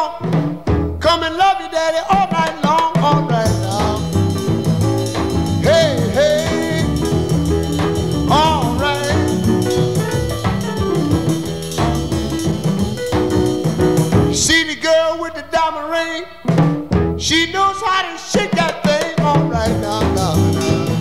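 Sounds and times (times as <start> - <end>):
upbeat song with drums and bass: 0.0 - 15.0, 16.4 - 21.0.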